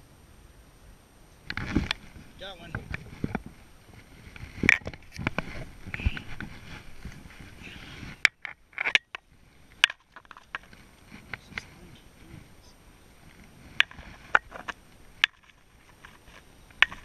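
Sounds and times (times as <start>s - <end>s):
fishing gear handling noise: 1.5s - 11.5s, 13.2s - 17.0s.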